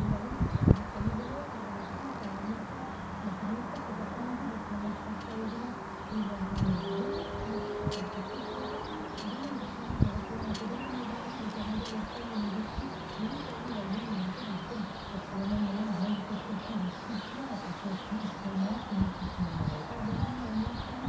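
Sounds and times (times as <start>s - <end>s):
pigeons cooing: 0.0s - 21.0s
small birds chirping: 0.0s - 21.0s.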